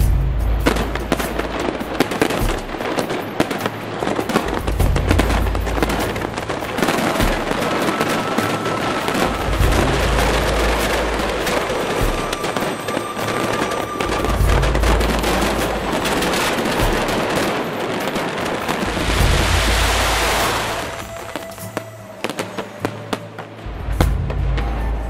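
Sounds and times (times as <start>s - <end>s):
fireworks crackling and banging: 0.0s - 25.0s
music playing: 0.0s - 25.0s.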